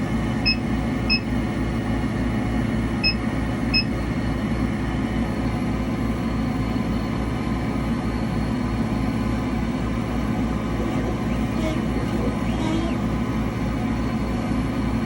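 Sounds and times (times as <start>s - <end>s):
engraver grinding hum: 0.0s - 15.0s.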